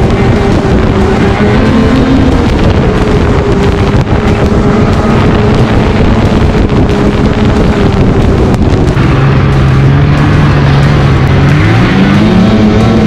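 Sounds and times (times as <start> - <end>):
snowmobile engine running: 0.0 - 13.0
wind on microphone: 0.0 - 13.0.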